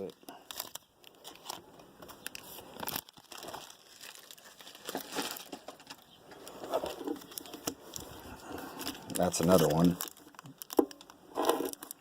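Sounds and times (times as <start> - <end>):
card wrappers tearing and crinkling: 0.0 - 12.0.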